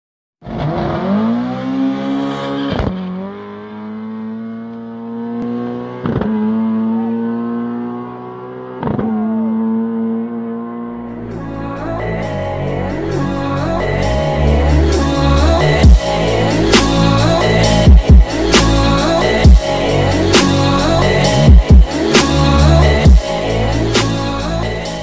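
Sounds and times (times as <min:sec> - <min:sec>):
race car engines accelerating: 0:00.4 - 0:25.0.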